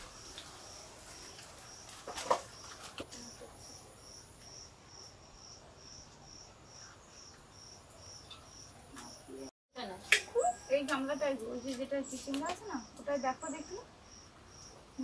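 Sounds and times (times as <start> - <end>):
insect chirping: 0.0 - 9.5, 10.4 - 15.0.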